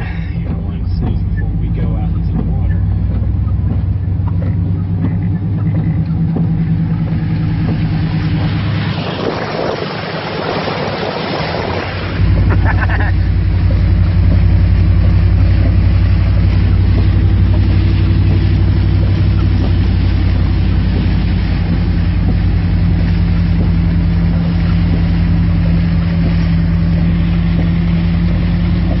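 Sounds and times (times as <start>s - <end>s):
pickup engine droning: 0.0s - 29.0s.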